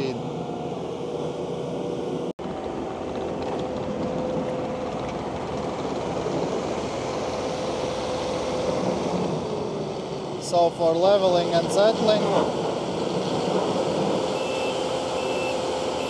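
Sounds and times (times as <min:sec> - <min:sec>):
track loader machine drone: 0:00.0 - 0:16.0.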